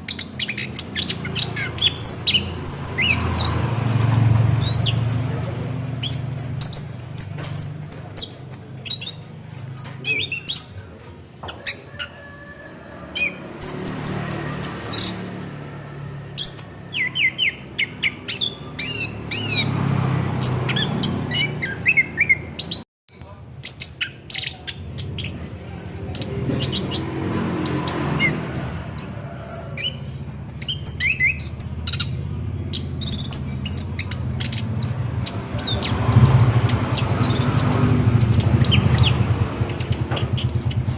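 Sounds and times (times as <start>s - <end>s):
thrush singing: 0.0s - 22.8s, 24.2s - 40.9s.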